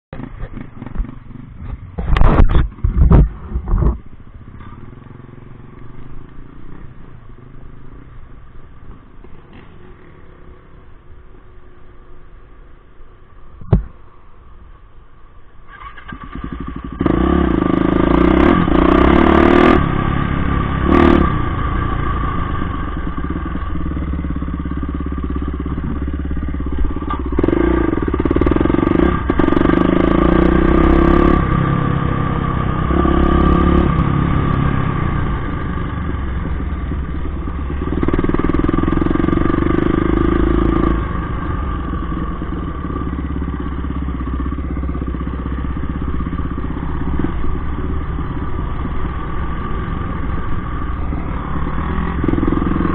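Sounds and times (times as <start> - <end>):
motorcycle engine revving: 0.1 - 8.5, 15.7 - 52.9.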